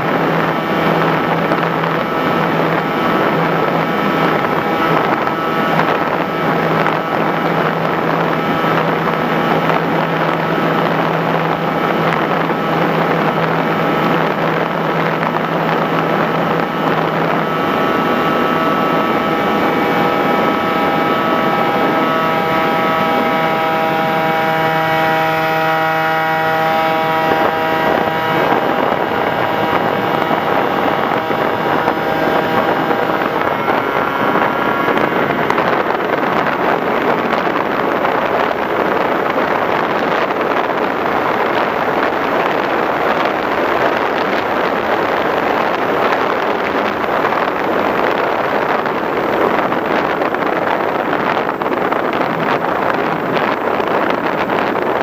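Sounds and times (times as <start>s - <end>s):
electric motor and propeller whine: 0.0s - 55.0s
wind rushing on microphone: 0.0s - 55.0s.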